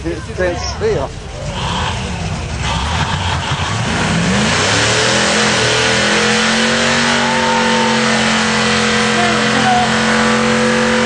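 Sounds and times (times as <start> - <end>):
tyres spinning with dense hiss: 0.0 - 11.0
engine revving during burnout: 1.3 - 11.0.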